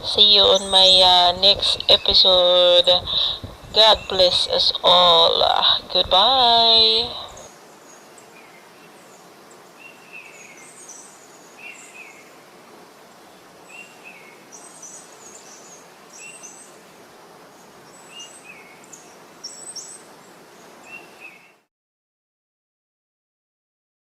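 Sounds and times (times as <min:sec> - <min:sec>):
background hiss: 0:00.0 - 0:21.7.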